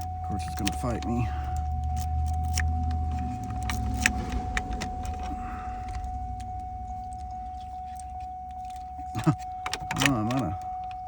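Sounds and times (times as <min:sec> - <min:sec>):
high tone: 0:00.0 - 0:11.0
low hum: 0:00.0 - 0:11.0
keys jangling: 0:01.5 - 0:11.0.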